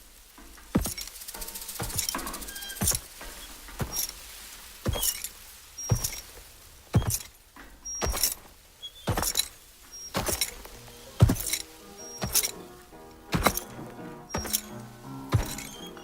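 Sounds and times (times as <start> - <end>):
sharp knocks or steps: 0.4 - 5.3, 5.9 - 16.0.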